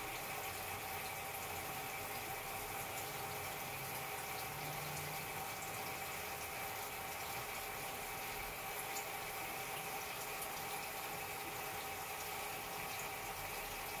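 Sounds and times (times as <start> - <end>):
faint pump tones: 0.0 - 14.0
water trickling and bubbling: 0.0 - 14.0.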